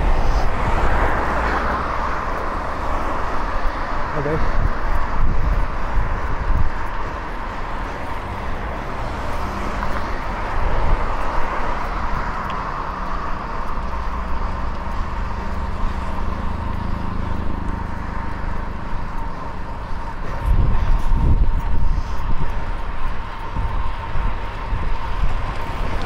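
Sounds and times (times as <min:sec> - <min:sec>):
city traffic and road noise: 0:00.0 - 0:26.0
low engine-like hum: 0:00.0 - 0:26.0
wind buffeting microphone: 0:00.0 - 0:26.0.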